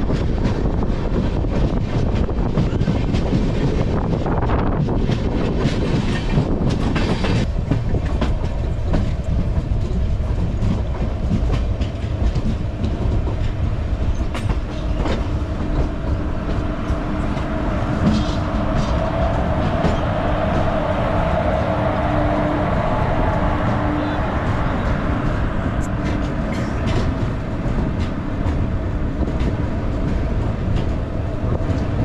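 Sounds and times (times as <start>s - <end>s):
wheels clicking over rail joints: 0.0s - 20.7s, 24.4s - 32.0s
train rumble: 0.0s - 32.0s.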